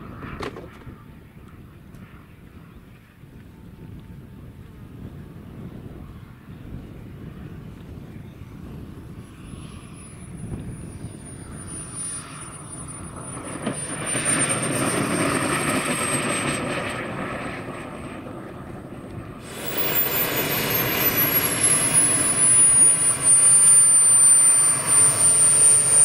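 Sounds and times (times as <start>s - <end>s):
jet turbine whine: 0.0s - 26.0s
rushing noise of jet flying past: 4.3s - 26.0s.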